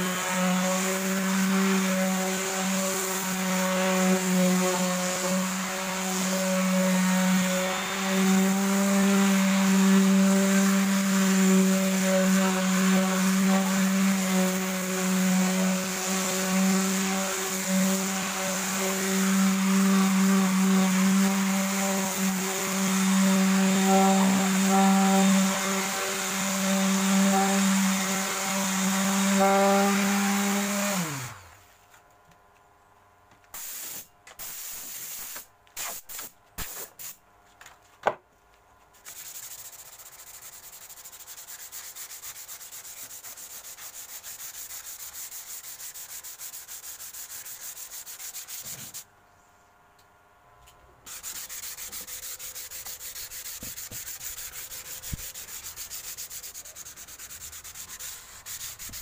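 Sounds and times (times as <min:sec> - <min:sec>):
hand sanding plywood: 0:00.0 - 0:31.6, 0:38.9 - 0:49.0, 0:51.1 - 0:59.0.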